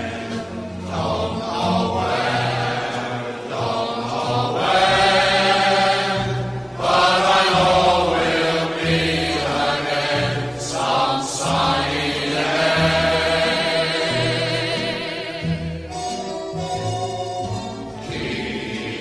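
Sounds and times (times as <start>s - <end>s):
choir singing held notes: 0.0s - 19.0s
musical accompaniment: 0.0s - 19.0s.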